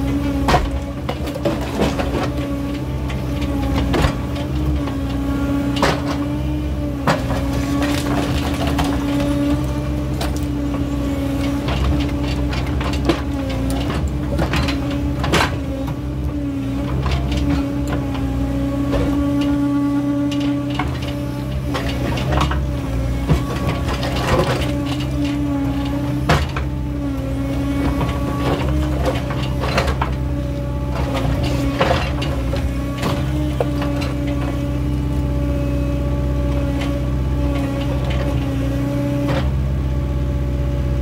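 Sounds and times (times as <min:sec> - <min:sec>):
diesel engine humming: 0:00.0 - 0:41.0.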